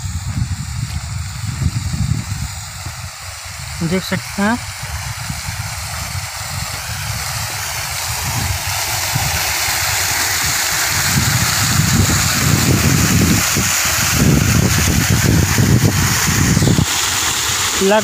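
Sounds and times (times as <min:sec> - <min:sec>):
water jet spraying and splashing: 0:00.0 - 0:18.0.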